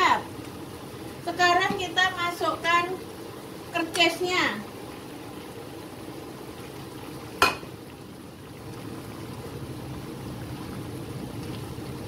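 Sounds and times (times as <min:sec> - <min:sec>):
broth bubbling in a pan: 0:00.0 - 0:12.0.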